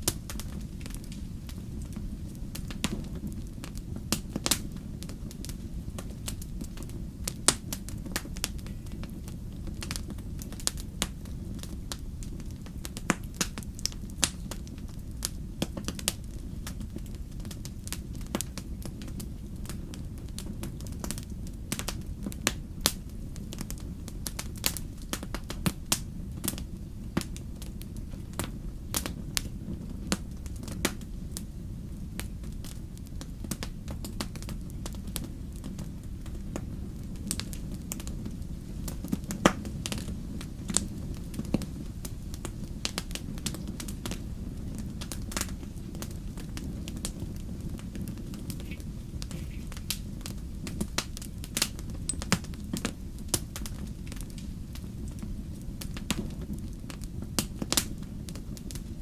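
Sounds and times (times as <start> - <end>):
campfire crackling and popping: 0.0 - 59.0
fire low rumble: 0.0 - 59.0.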